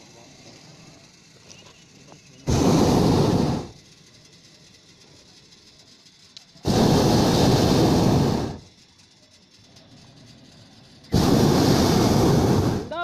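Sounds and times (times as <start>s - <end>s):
propane burner blast: 0.0s - 13.0s.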